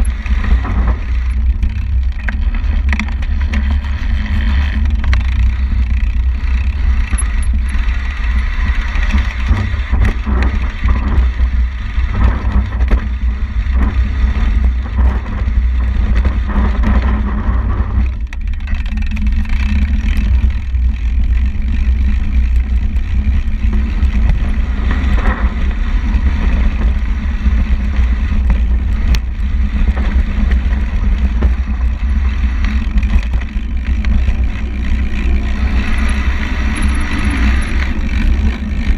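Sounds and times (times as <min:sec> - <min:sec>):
bike knocks and rattles: 0:00.0 - 0:38.9
tyre noise on asphalt: 0:00.0 - 0:38.9
wind rushing over microphone: 0:00.0 - 0:38.9.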